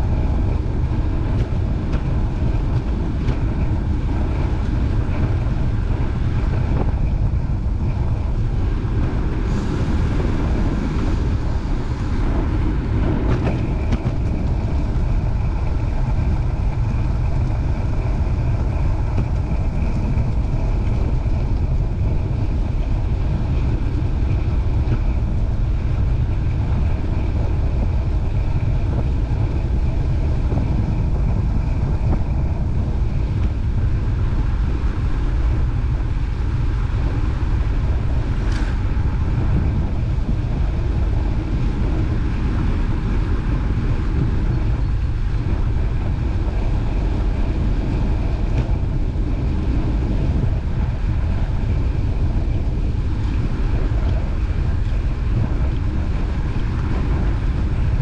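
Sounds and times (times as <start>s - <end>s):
faint steady whine: 0.0s - 58.0s
wind buffeting microphone: 0.0s - 58.0s.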